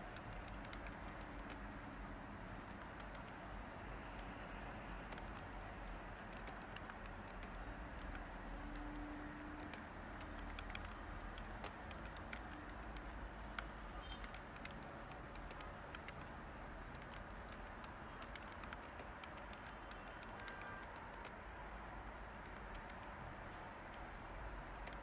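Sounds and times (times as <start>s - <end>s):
typing on computer keyboard: 0.0s - 21.6s, 22.2s - 25.0s.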